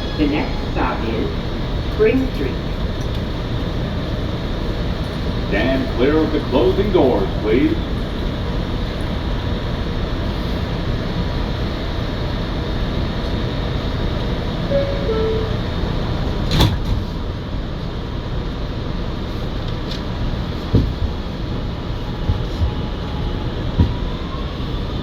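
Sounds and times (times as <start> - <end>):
subway wheels rumbling on rail: 0.0 - 25.0.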